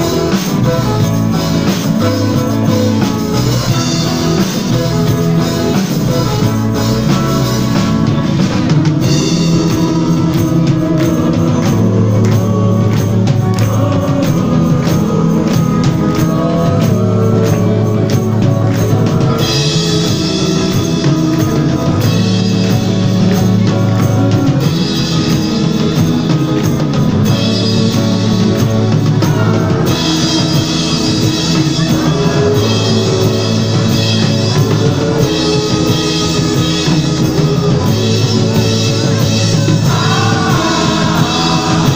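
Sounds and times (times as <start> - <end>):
acoustic guitar: 0.0 - 41.9
bass guitar: 0.0 - 41.9
drum kit beat: 0.0 - 41.9
person singing: 0.0 - 41.9.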